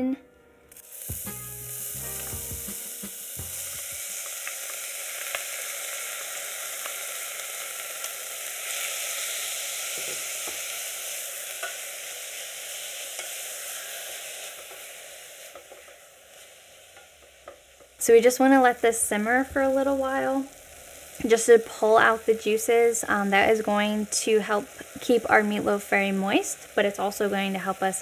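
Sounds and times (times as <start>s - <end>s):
vegetables sizzling in oil: 0.7s - 28.0s.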